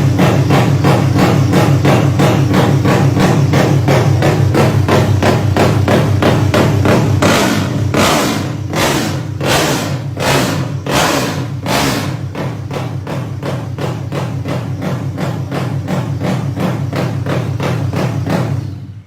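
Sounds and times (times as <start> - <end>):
motorcycle engine running loud: 0.0 - 19.0.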